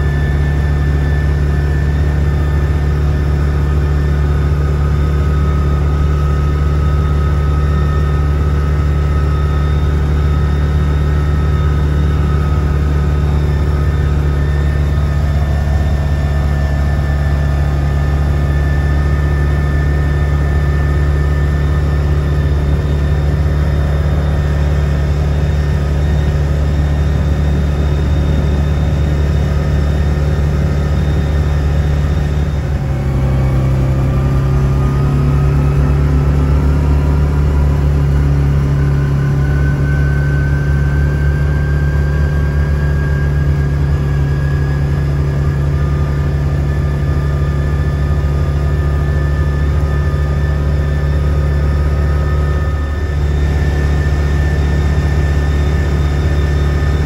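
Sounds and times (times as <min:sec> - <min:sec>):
utility vehicle engine droning: 0:00.0 - 0:57.0.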